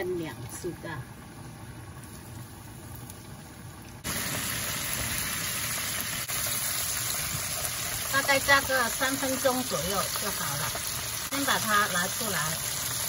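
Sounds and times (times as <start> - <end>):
hot oil sizzling deep-frying: 0.0 - 13.0.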